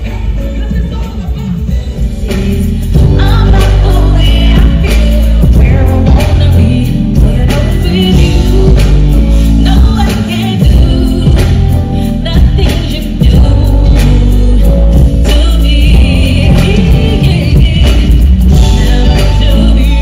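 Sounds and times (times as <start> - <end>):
live band with heavy bass: 0.0 - 20.0.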